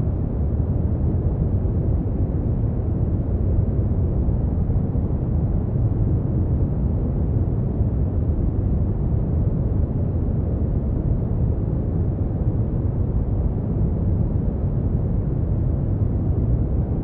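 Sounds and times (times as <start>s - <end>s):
deep rumbling brown noise hiss: 0.0s - 17.0s.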